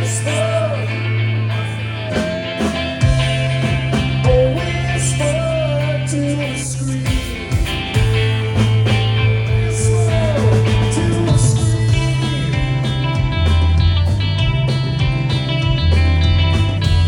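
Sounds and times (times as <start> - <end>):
lead vocal melody: 0.0 - 13.8
rock band playing: 0.0 - 17.0.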